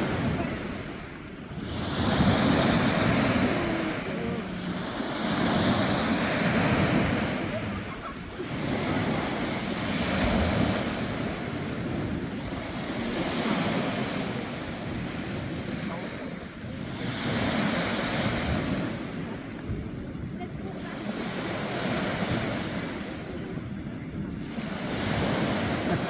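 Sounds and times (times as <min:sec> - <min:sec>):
small waves breaking on beach: 0:00.0 - 0:26.0
wind rumbling on microphone: 0:00.0 - 0:26.0.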